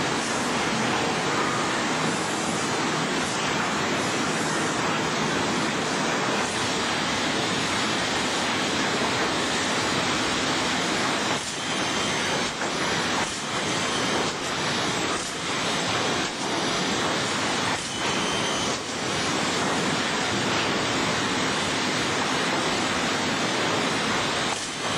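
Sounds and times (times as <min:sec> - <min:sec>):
sawmill machinery running: 0:00.0 - 0:24.9.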